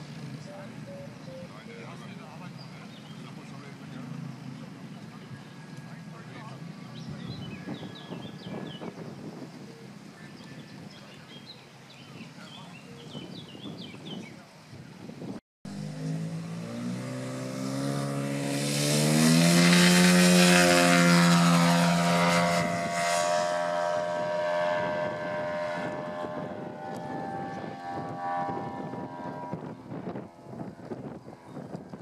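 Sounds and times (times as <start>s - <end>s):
model plane engine and propeller: 0.0s - 32.0s.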